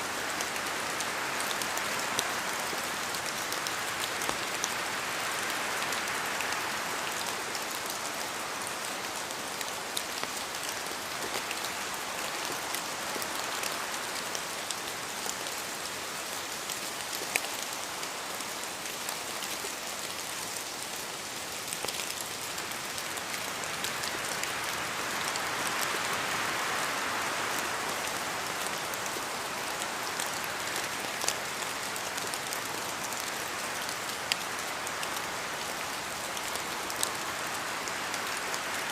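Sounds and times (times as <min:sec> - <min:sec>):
rain falling in a forest: 0:00.0 - 0:38.9
wind: 0:00.0 - 0:38.9
raindrops ticking close by: 0:00.1 - 0:38.9.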